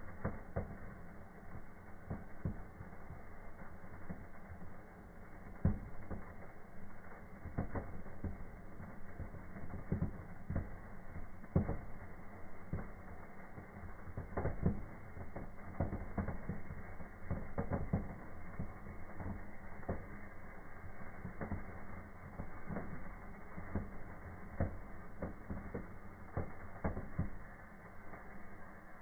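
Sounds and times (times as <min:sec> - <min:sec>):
sparklers crackling and popping: 0:00.0 - 0:29.0.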